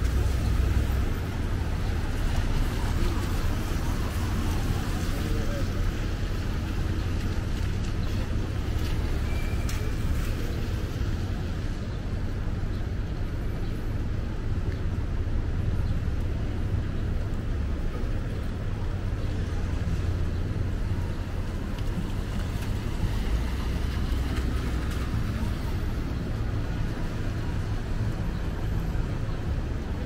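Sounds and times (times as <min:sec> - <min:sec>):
rumble of passing cars: 0:00.0 - 0:30.0
tyre noise on wet asphalt: 0:00.0 - 0:30.0.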